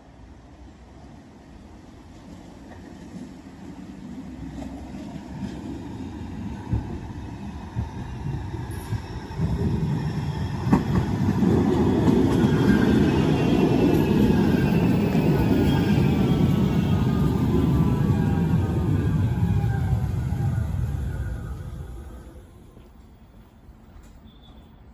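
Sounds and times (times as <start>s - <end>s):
tram rumbling on track: 0.0s - 24.9s.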